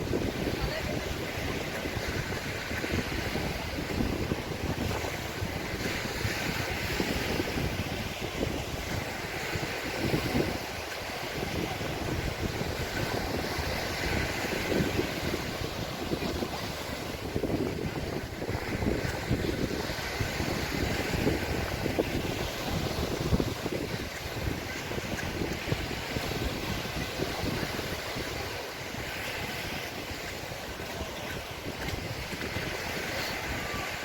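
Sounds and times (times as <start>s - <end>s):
sea waves washing onto beach: 0.0s - 34.0s
wind gusting on microphone: 0.0s - 34.0s.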